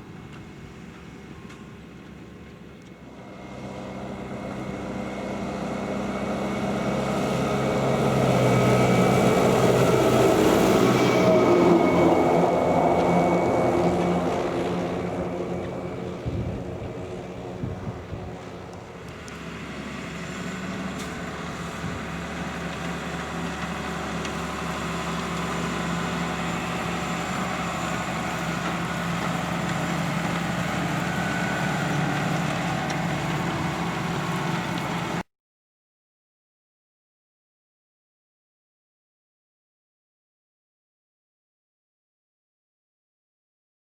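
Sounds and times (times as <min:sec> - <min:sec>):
tractor engine running: 0:00.0 - 0:35.2.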